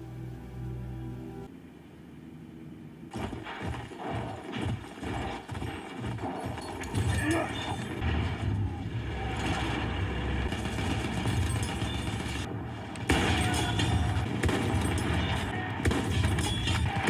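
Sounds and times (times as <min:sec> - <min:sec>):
explosions: 0:03.1 - 0:17.0
gunfire: 0:03.1 - 0:17.0.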